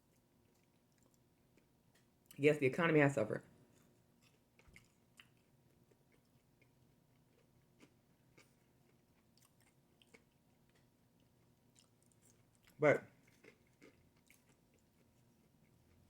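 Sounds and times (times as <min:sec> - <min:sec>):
faint chewing of food: 0:00.0 - 0:02.4, 0:03.6 - 0:16.0.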